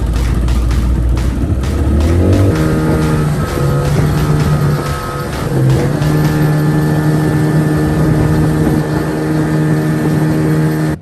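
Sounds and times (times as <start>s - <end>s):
outboard motor droning: 0.0s - 11.0s
rushing wind and water: 0.0s - 11.0s.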